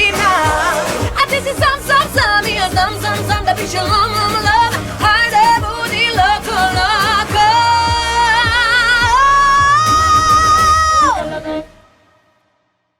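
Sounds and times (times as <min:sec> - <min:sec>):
dance-pop beat: 0:00.0 - 0:11.8
woman singing with vibrato: 0:00.0 - 0:12.1.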